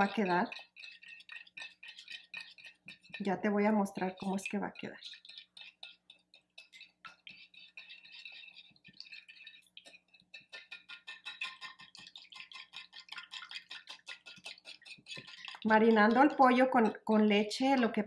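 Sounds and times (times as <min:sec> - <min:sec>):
whisk clicking against glass dish: 0:00.0 - 0:17.0.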